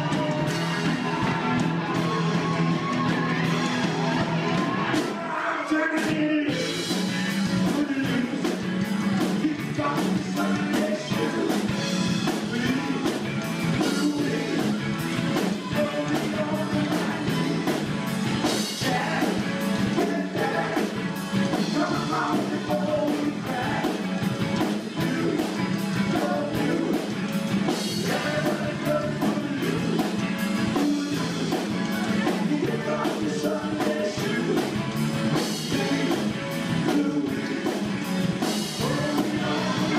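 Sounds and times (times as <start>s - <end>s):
rock band playing: 0.0s - 39.9s
person singing: 4.5s - 17.9s, 18.5s - 39.9s.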